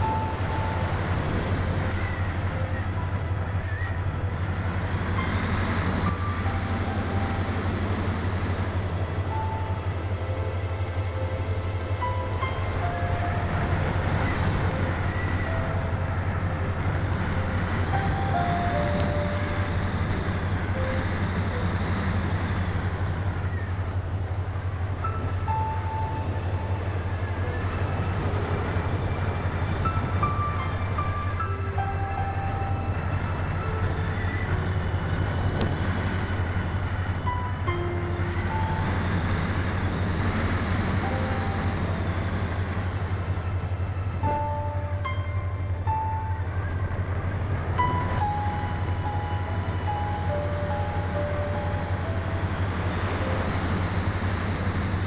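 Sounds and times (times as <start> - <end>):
airflow rush and vibration rumble: 0.0 - 55.0.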